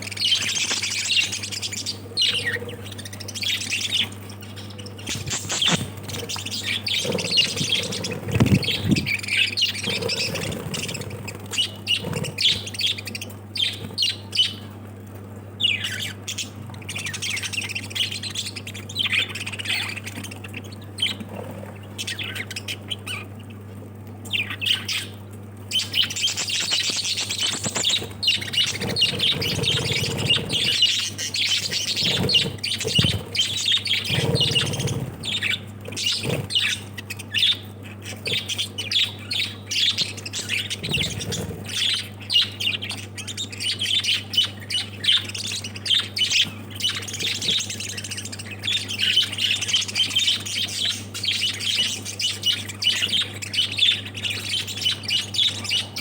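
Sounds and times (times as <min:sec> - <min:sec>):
lovebirds chattering and squawking: 0:00.0 - 0:56.0
steady low hum: 0:00.0 - 0:56.0.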